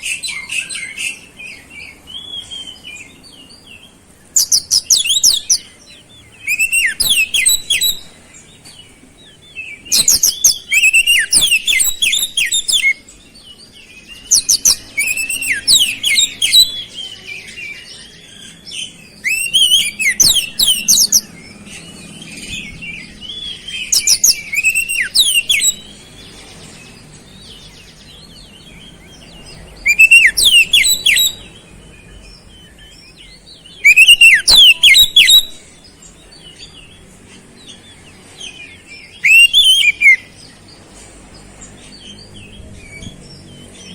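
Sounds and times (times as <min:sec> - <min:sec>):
bird singing chirps and whistles: 0:00.0 - 0:37.0, 0:37.6 - 0:40.8.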